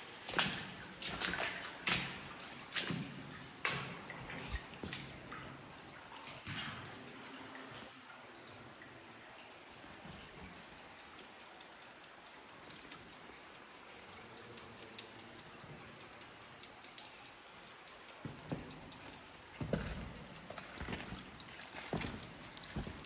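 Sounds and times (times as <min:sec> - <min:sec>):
water dripping in a cave: 0:00.0 - 0:23.0.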